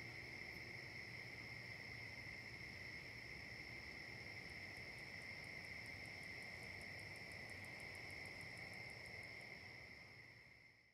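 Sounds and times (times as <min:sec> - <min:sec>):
insects trilling: 0:00.0 - 0:10.7.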